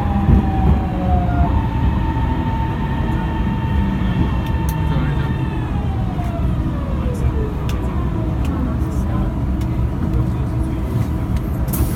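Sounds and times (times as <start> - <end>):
train electric drive whining: 0.0 - 10.2
constant rumble: 0.0 - 11.9.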